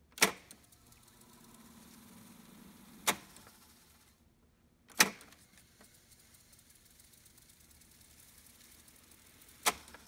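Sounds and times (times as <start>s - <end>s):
tape deck spooling hum: 0.6s - 4.1s, 5.4s - 10.0s.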